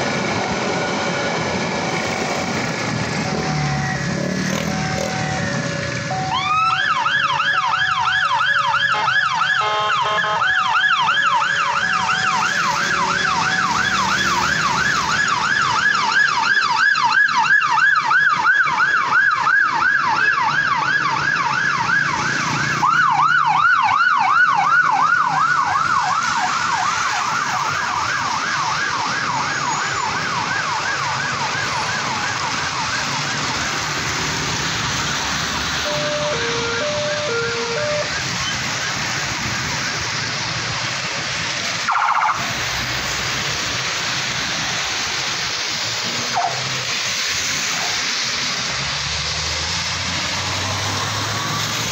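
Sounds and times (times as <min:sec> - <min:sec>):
police siren yelping: 0:00.0 - 0:42.8, 0:45.5 - 0:46.9, 0:50.4 - 0:51.9
traffic on a wet road: 0:00.0 - 0:51.9.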